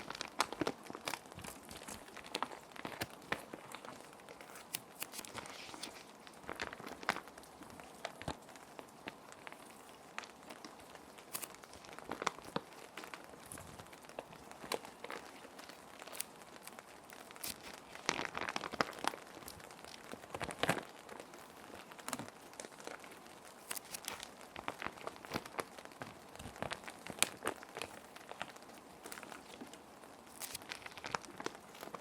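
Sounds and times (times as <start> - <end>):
background rain hiss: 0.0 - 32.0
plastic sheet protectors crinkling: 0.0 - 32.0.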